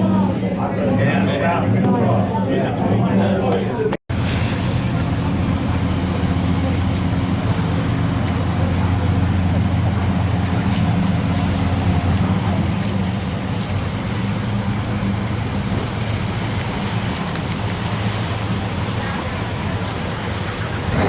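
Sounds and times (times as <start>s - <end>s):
car engine idling: 4.1s - 21.0s.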